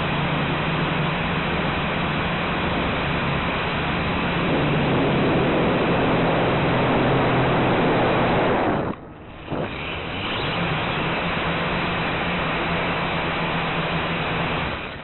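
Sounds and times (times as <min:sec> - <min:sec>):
quadcopter motors and propellers: 0:00.0 - 0:15.0.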